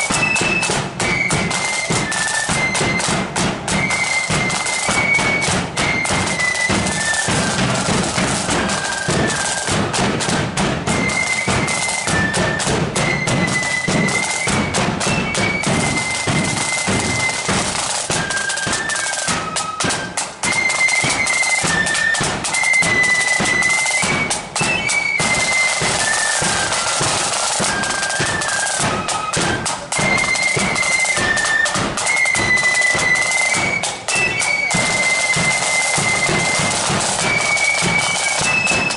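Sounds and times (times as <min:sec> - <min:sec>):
flutes playing melody: 0:00.0 - 0:38.9
side drumming: 0:00.0 - 0:38.9.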